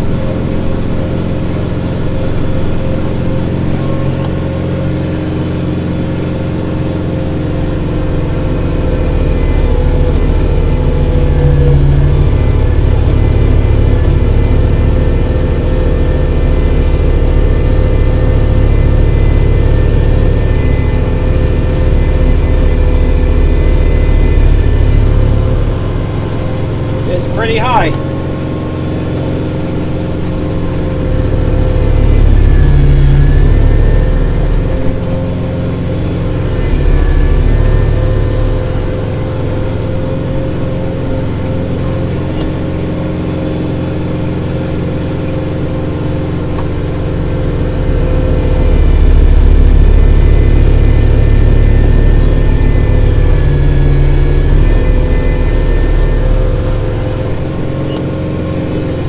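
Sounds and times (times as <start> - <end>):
snow blower whine: 0.0 - 59.0
tractor diesel engine running: 0.0 - 59.0.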